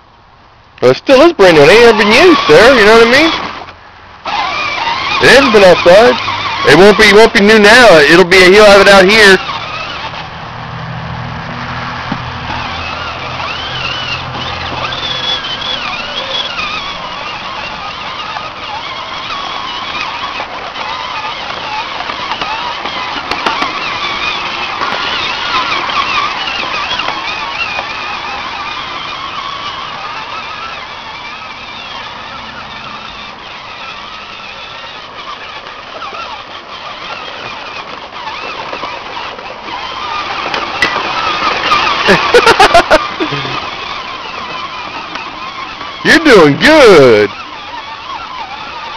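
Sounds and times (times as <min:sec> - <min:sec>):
toy tractor motor whining: 0:00.8 - 0:48.9.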